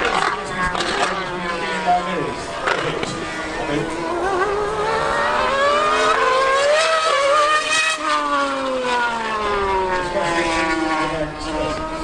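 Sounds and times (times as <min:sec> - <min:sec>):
racing engine at full throttle: 0:00.0 - 0:12.0.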